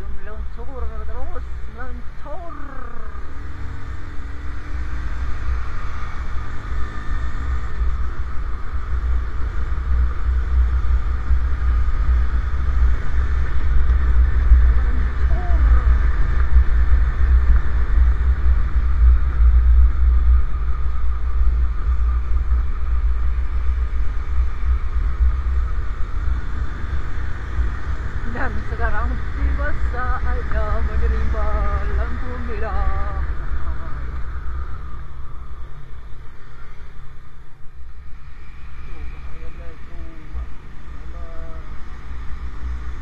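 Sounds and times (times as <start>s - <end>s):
motorcycle engine: 0.0s - 43.0s
road noise: 0.0s - 43.0s.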